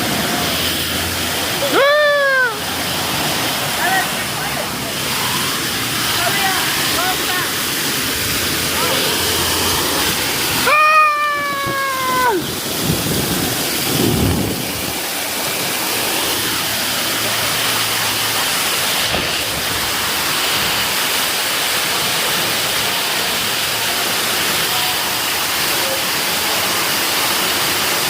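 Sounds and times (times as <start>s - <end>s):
falling water rushing and splashing: 0.0s - 28.0s.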